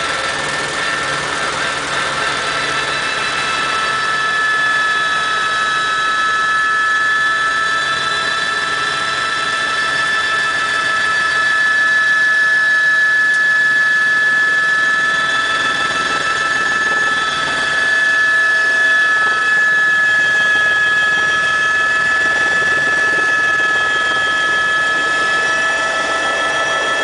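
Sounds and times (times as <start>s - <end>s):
helicopter engine noise: 0.0s - 27.0s
helicopter turbine whine: 0.0s - 27.0s.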